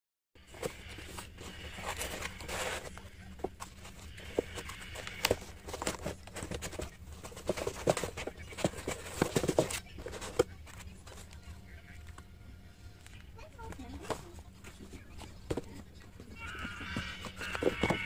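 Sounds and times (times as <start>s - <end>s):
cardboard rustling and scraping: 0.4s - 12.2s, 12.9s - 18.0s.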